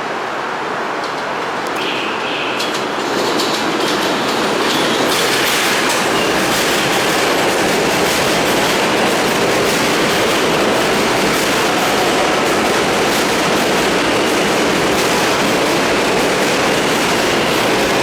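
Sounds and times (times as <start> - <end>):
subway train wheels clattering: 0.0 - 18.0.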